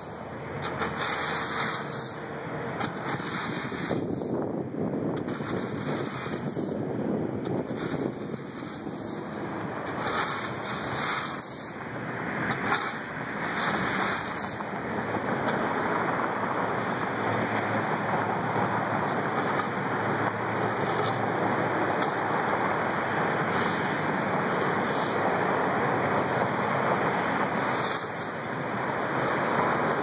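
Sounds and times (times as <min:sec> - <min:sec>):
wind rushing on microphone: 0:02.3 - 0:30.0.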